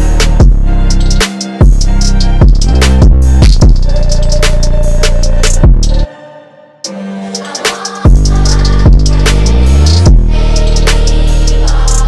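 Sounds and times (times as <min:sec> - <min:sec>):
music with bass and drums: 0:00.0 - 0:06.0, 0:07.5 - 0:12.0.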